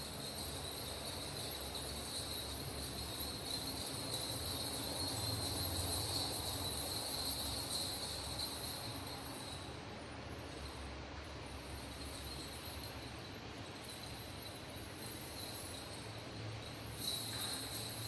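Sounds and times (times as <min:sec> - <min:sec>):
metal coins jingling: 0:00.0 - 0:10.9, 0:11.5 - 0:18.0.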